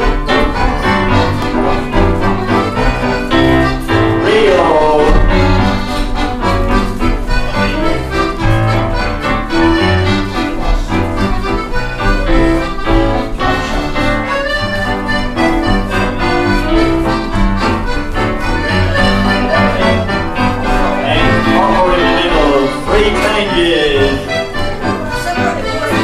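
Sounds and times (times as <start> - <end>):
accordion: 0.0 - 26.0
country dance band playing: 0.0 - 26.0
dancers' voices: 0.0 - 26.0.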